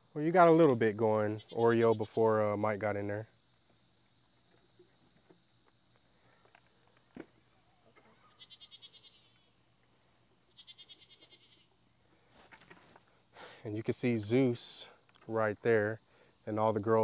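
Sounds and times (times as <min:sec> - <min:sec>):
fast pulsing insect trills: 0:00.0 - 0:17.0
insects buzzing: 0:00.0 - 0:17.0.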